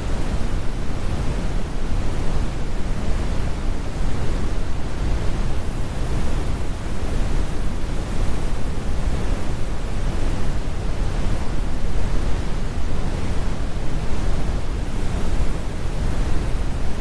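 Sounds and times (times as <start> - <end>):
brown noise rumbling hiss: 0.0 - 17.0.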